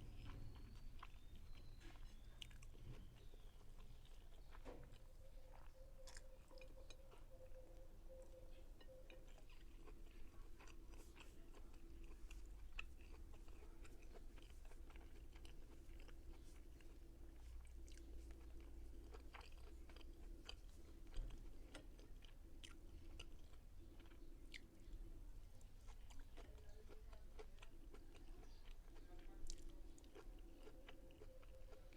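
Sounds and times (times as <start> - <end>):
faint steady hum: 0.0 - 31.9
person chewing food: 0.0 - 31.9.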